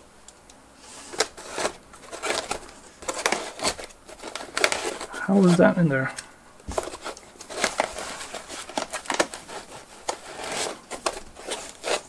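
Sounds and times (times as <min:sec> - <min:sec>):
packaging rustling and crinkling: 0:00.8 - 0:12.0.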